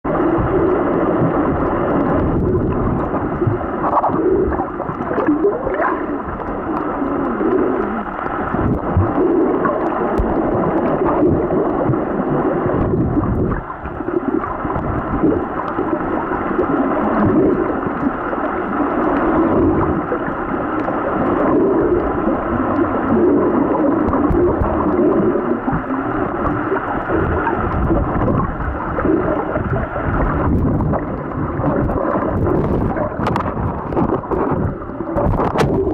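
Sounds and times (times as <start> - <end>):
muffled underwater water sloshing: 0.1 - 35.9.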